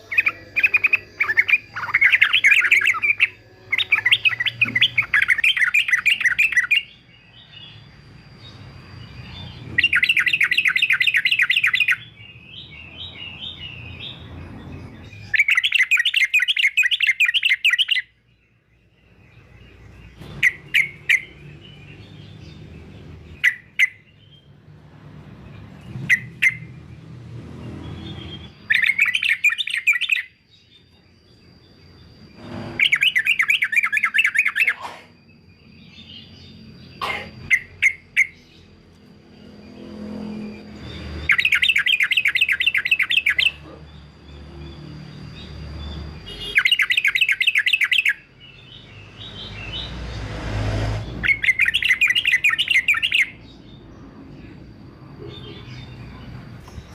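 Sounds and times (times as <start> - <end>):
bird chattering song: 0.0 - 50.3, 51.0 - 56.9.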